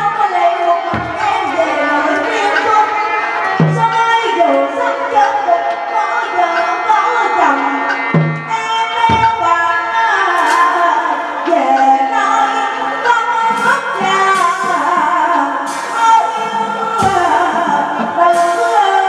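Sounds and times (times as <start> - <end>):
drum strokes: 0.0 - 5.2, 6.5 - 12.4, 13.0 - 19.0.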